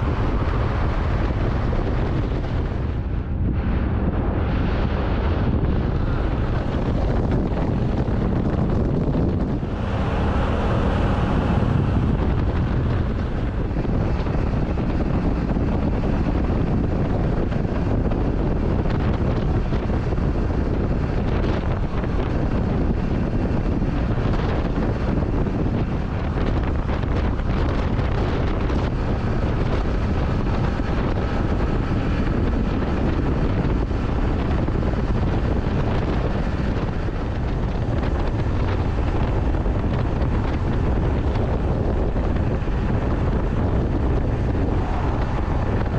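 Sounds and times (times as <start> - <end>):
motorcycle running: 0.0 - 45.9
wind rush on microphone: 0.0 - 45.9.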